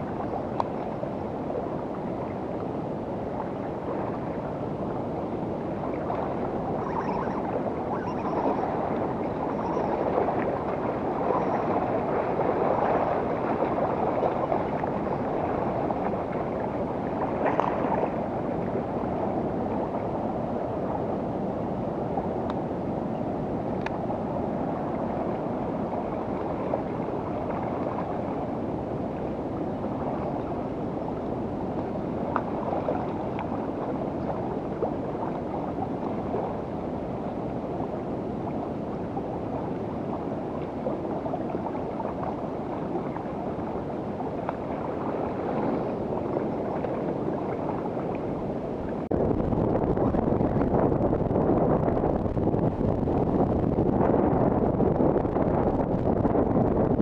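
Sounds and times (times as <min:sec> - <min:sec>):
lake water lapping at shore: 0:00.0 - 0:21.1, 0:23.6 - 0:53.4
wind on microphone: 0:00.0 - 0:57.0.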